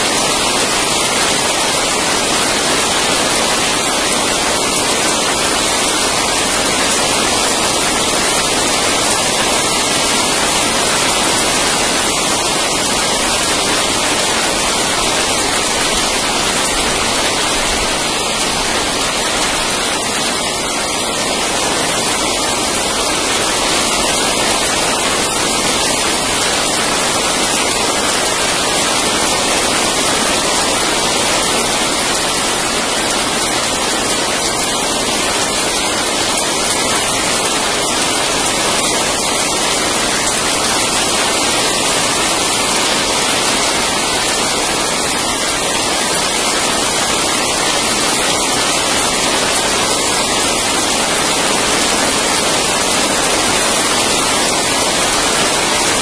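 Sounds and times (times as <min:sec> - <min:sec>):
steady heavy rain: 0:00.0 - 0:56.0.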